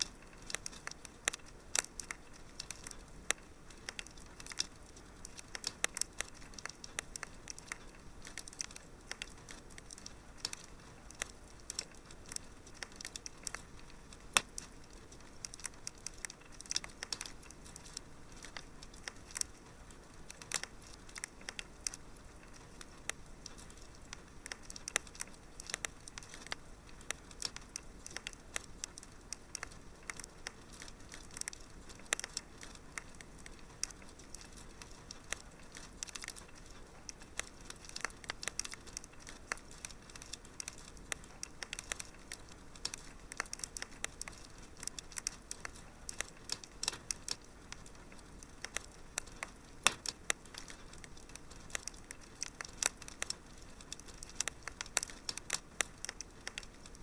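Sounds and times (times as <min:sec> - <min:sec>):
faint steady hiss: 0:00.0 - 0:57.0
fire crackling: 0:00.0 - 0:57.0.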